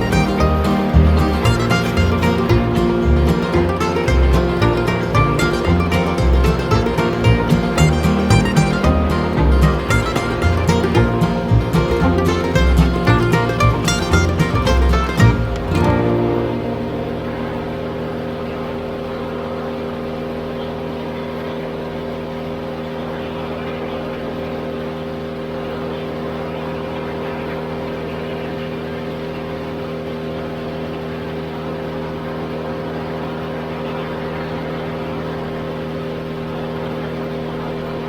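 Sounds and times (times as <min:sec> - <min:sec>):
engine steady drone: 0:00.0 - 0:38.0.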